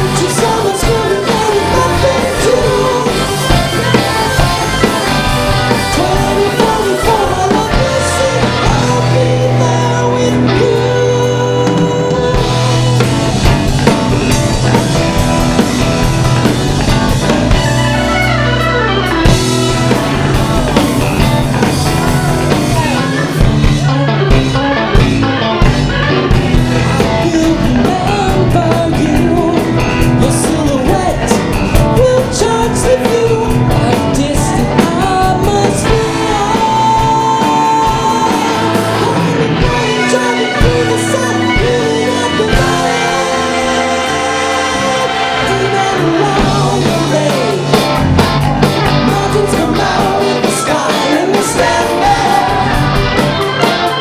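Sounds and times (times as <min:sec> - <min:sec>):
people singing: 0:00.0 - 0:24.3, 0:26.5 - 0:54.0
drum kit: 0:00.0 - 0:54.0
electric guitar: 0:00.0 - 0:54.0.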